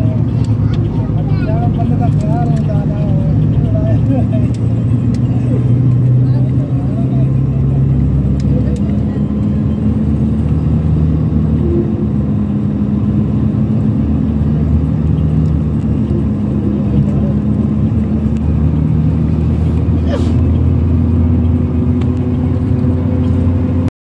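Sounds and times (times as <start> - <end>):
coach engine drone: 0.0 - 23.9
road noise: 0.0 - 23.9.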